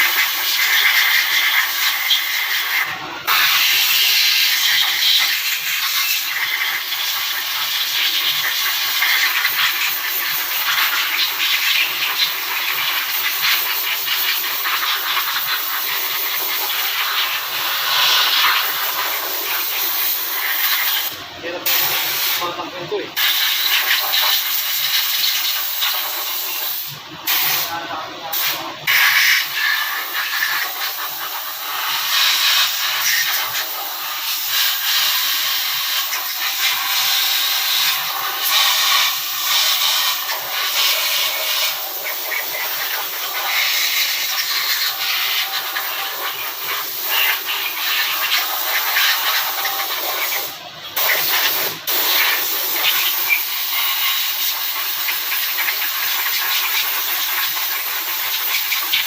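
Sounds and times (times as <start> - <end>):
loud steady hissing: 0.0 - 59.0.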